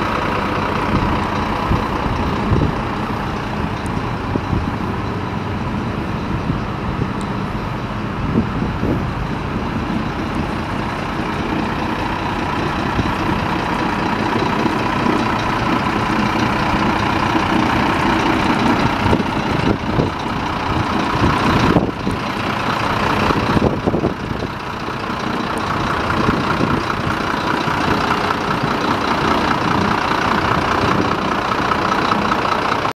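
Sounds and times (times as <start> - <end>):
diesel truck engine idling: 0.0 - 32.9.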